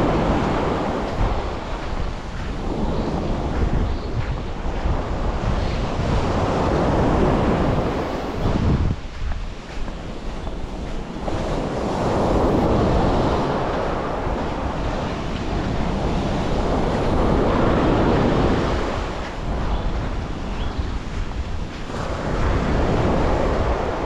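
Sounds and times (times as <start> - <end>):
waves washing onto beach: 0.0 - 24.0
wind buffeting microphone: 0.0 - 24.0.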